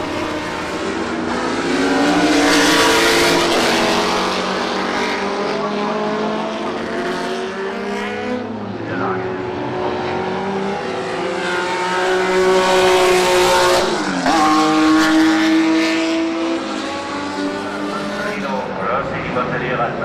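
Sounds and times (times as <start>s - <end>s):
racing car engines running hard: 0.0s - 20.0s.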